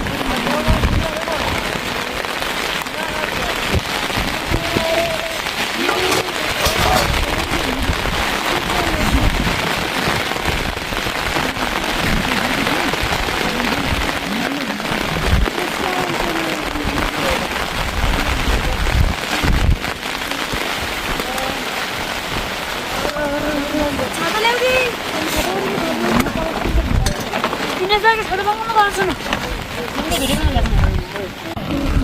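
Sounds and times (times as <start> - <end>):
faint voices: 0.0 - 32.0
heavy rain falling: 0.0 - 32.0.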